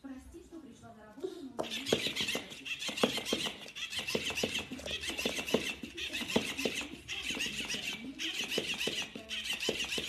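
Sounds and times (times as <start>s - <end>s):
toy motor buzzing: 1.6s - 10.0s
toy tail slapping surface: 1.6s - 10.0s.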